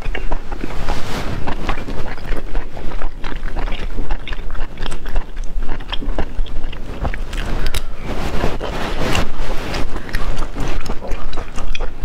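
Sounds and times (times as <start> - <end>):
person chewing with mouth clicks: 0.0 - 12.0.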